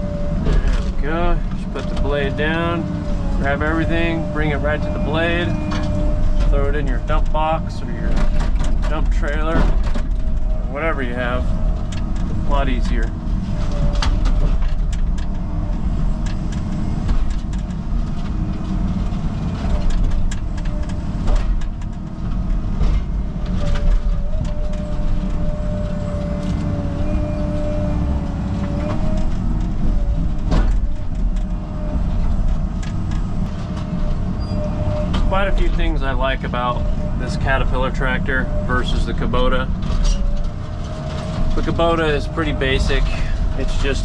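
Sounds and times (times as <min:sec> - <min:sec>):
excavator diesel engine running: 0:00.0 - 0:44.0
hydraulic whine: 0:00.0 - 0:44.0.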